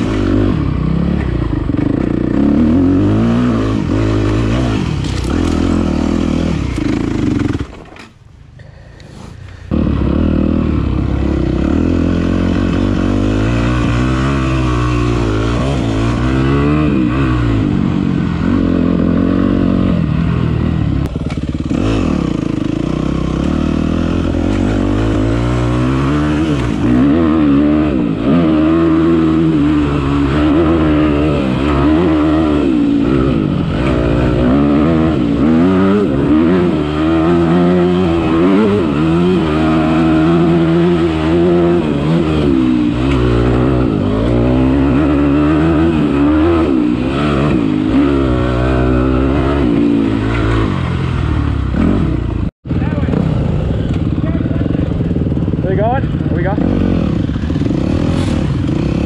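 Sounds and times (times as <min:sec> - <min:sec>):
dirt bike engine revving: 0:00.0 - 0:08.2, 0:09.6 - 0:59.0.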